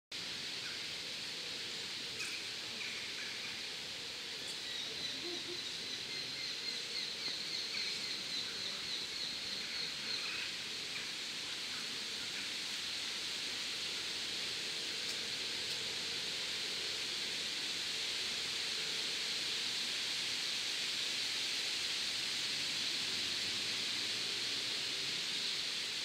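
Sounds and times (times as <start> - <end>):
steady outdoor hiss: 0.1 - 26.0.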